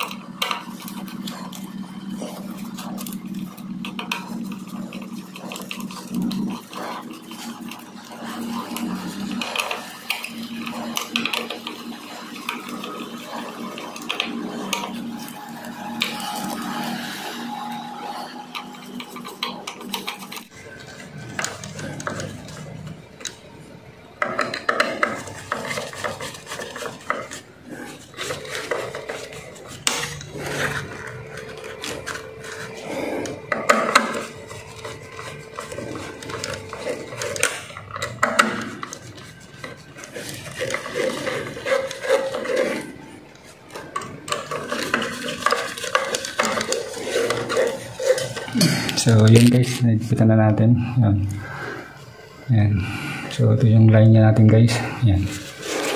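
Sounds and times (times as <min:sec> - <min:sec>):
electrical wires scraping and rubbing: 0:00.0 - 0:55.9.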